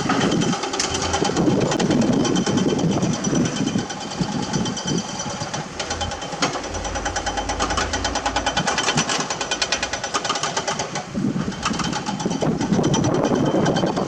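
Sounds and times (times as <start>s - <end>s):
low hum: 0.0s - 12.7s
diesel engine ticking clatter: 0.0s - 14.0s.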